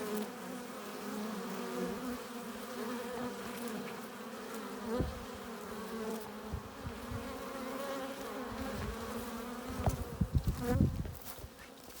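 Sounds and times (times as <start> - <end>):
bees buzzing: 0.0 - 10.9.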